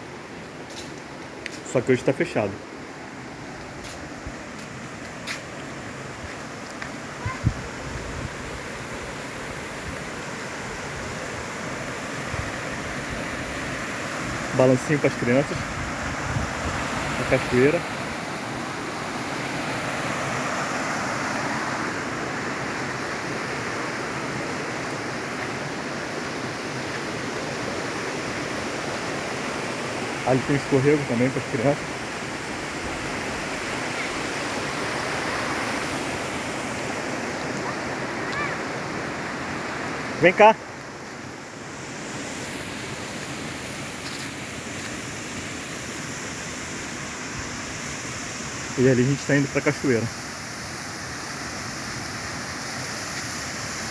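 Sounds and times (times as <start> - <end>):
waterfall rushing: 4.6 - 53.9.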